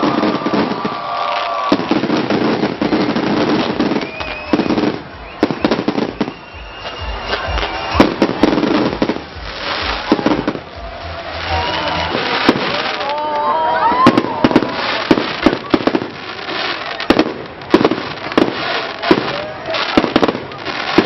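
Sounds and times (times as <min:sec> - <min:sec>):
firework whistle: 0:00.0 - 0:21.0
fireworks banging and crackling: 0:00.0 - 0:21.0.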